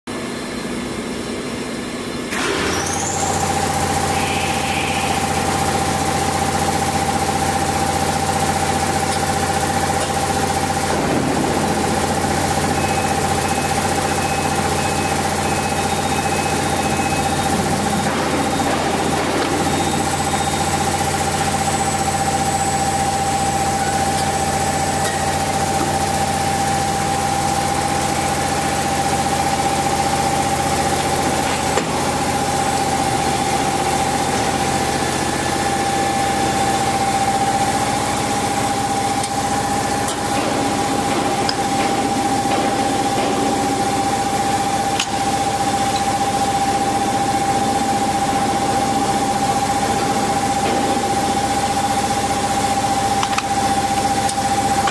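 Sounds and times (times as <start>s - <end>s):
machine hum: 0.1s - 54.9s
machine whine: 0.1s - 54.9s.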